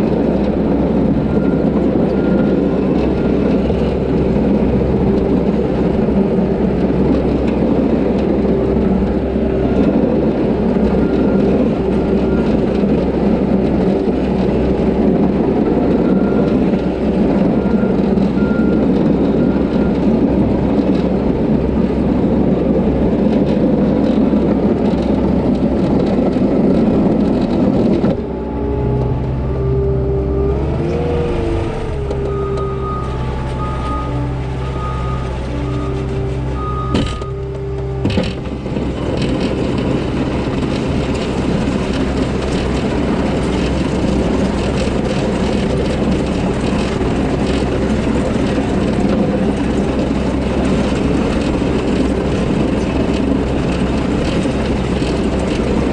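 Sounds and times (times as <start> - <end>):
heavy diesel engine under load: 0.0 - 55.9.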